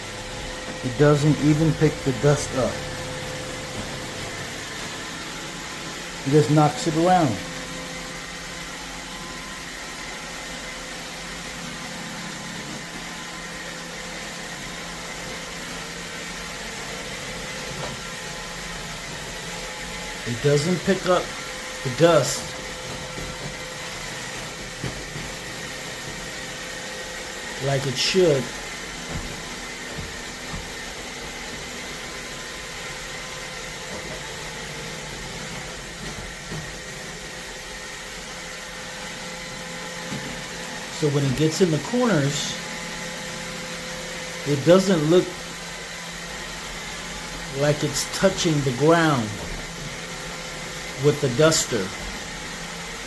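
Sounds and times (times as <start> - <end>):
robot vacuum whirring: 0.1 - 53.0.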